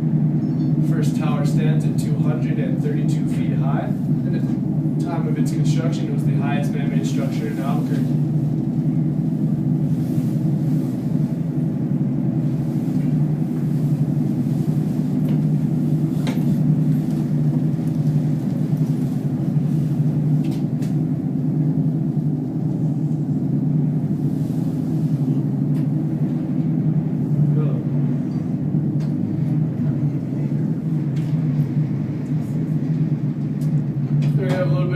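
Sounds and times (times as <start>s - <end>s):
cable car rumble and hum: 0.0s - 34.9s.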